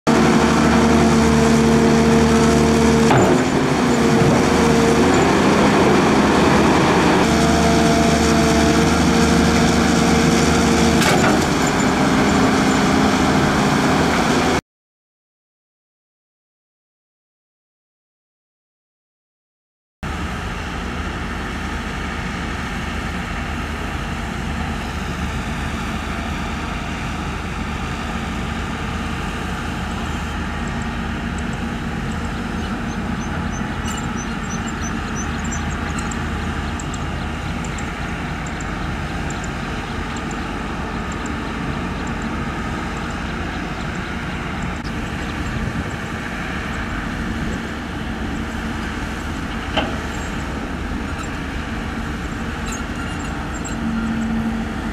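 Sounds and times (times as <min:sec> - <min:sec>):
excavator diesel engine running: 0:00.1 - 0:14.6, 0:20.1 - 0:54.9.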